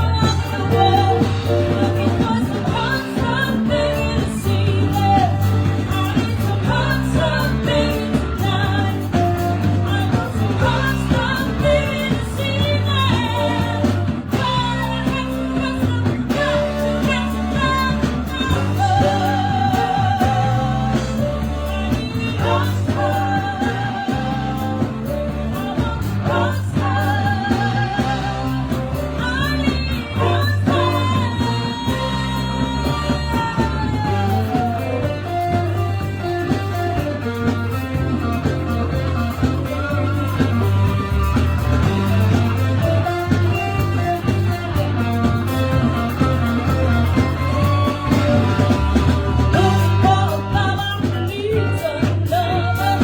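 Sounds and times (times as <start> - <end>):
bass line: 0.0 - 53.0
electric guitar: 0.0 - 53.0
person singing: 0.0 - 53.0.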